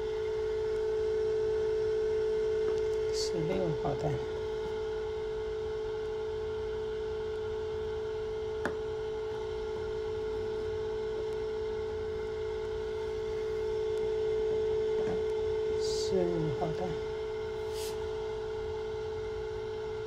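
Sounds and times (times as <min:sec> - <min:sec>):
incubator humming: 0:00.0 - 0:20.0.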